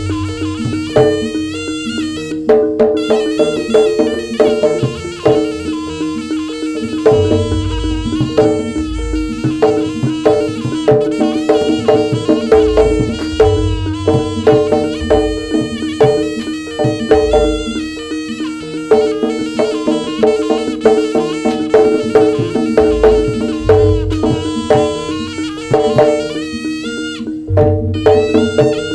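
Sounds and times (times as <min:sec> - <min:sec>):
gamelan percussion: 0:00.0 - 0:28.9
hand drums: 0:00.0 - 0:28.9
held drone tone: 0:00.0 - 0:28.9
shrill reed wind instrument: 0:00.0 - 0:28.9.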